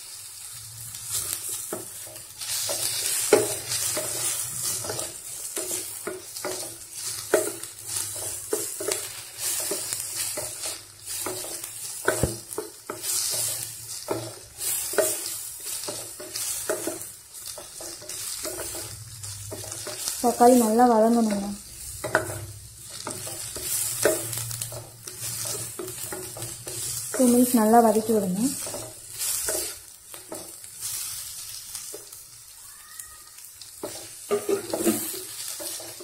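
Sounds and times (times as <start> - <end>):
vegetables sizzling in hot oil: 0.0 - 36.0
spatula scraping and knocking pot: 1.7 - 20.2, 21.9 - 30.6, 33.8 - 36.0.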